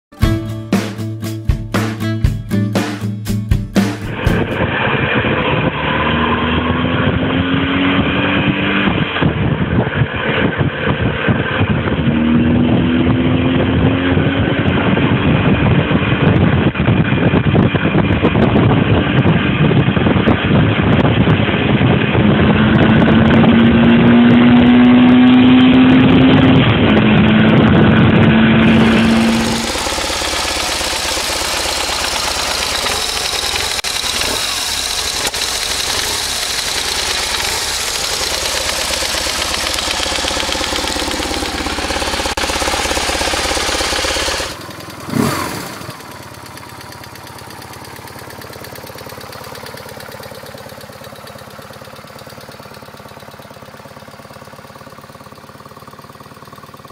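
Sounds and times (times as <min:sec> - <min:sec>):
motorcycle engine accelerating: 0:02.8 - 0:56.9.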